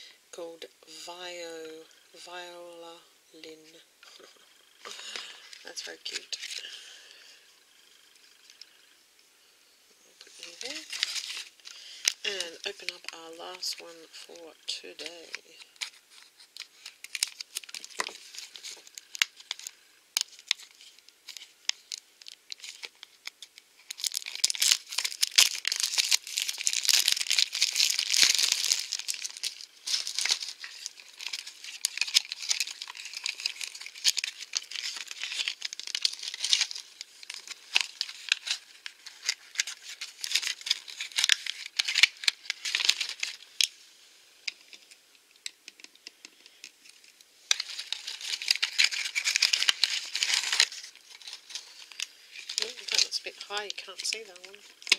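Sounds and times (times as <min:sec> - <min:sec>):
plastic packaging crackling: 0:04.2 - 0:07.2, 0:10.2 - 0:43.8, 0:44.4 - 0:54.9.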